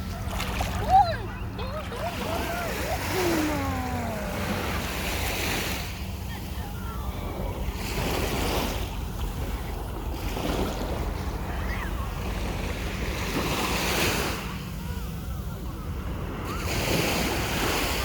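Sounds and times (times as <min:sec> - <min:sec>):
waves washing onto shore: 0:00.0 - 0:18.0.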